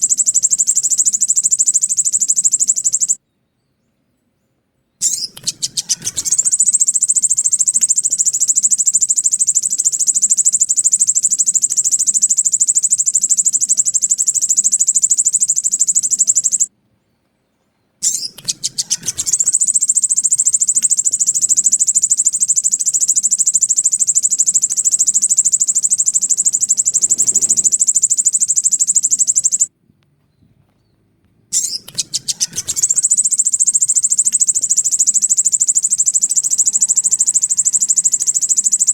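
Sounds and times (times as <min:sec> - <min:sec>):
bird singing rapid trill: 0:00.0 - 0:04.1, 0:04.9 - 0:16.7, 0:18.0 - 0:29.7, 0:31.5 - 0:38.9.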